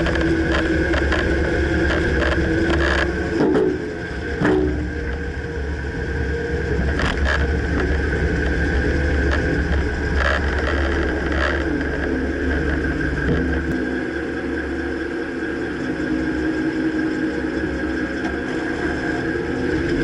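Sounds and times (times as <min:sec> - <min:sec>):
pickup truck engine and road noise: 0:00.0 - 0:20.0.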